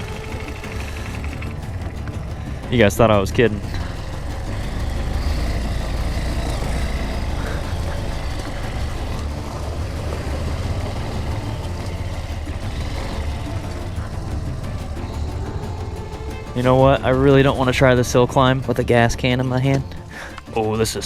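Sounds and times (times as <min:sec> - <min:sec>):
motorcycle engine running at low revs: 0:00.0 - 0:21.0.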